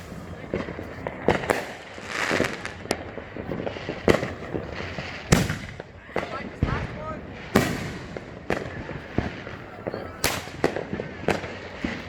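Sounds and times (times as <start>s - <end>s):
fireworks bangs and pops: 0.0s - 12.0s
fireworks crackling: 0.0s - 12.0s.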